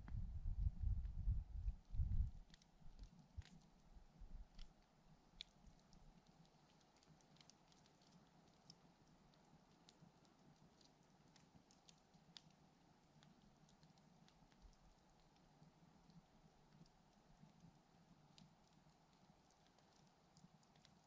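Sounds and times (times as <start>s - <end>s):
campfire crackling and popping: 0.2s - 21.0s.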